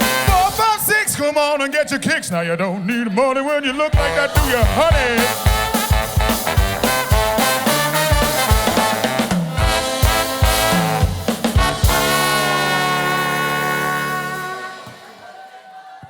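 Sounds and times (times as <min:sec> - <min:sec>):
brass band playing upbeat tune: 0:00.0 - 0:01.4, 0:04.0 - 0:15.5.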